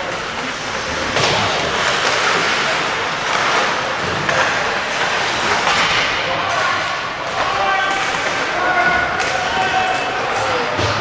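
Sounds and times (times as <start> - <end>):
hockey sticks and puck clacking: 0.0 - 11.0
murmur of voices: 0.0 - 11.0
skates scraping on ice: 0.0 - 11.0.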